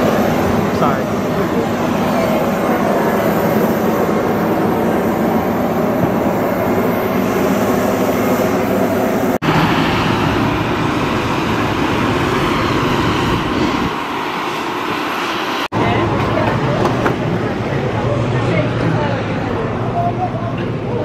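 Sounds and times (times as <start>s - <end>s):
aircraft and ground equipment drone: 0.0s - 21.0s.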